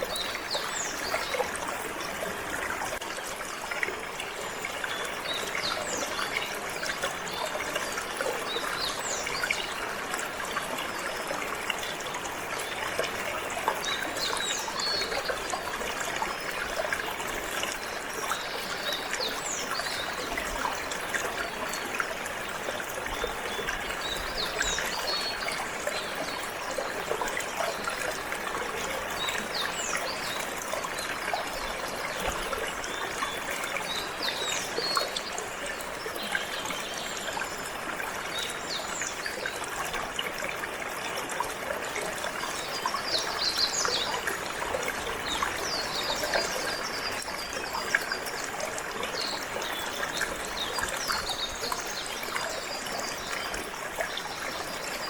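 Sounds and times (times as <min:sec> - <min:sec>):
trickling water: 0:00.0 - 0:55.0.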